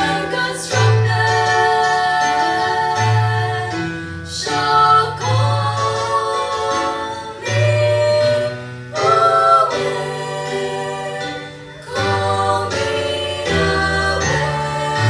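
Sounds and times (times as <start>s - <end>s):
vocal trio singing gospel: 0.0s - 15.0s.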